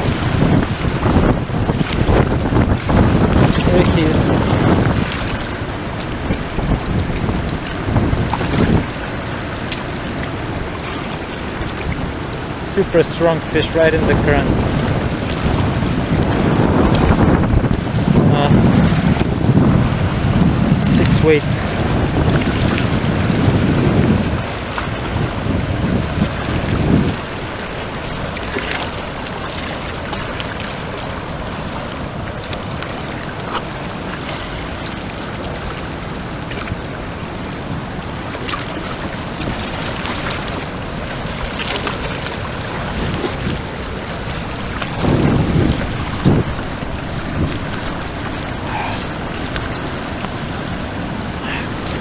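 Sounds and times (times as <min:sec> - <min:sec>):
river rushing through rapids: 0:00.0 - 0:52.0
wind buffeting microphone: 0:00.0 - 0:52.0.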